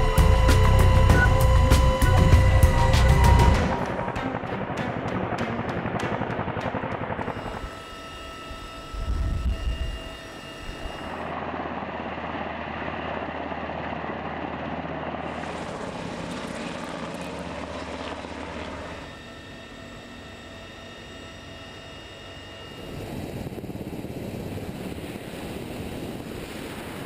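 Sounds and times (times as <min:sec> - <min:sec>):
helicopter rotors and turbine engines: 0:00.0 - 0:27.0.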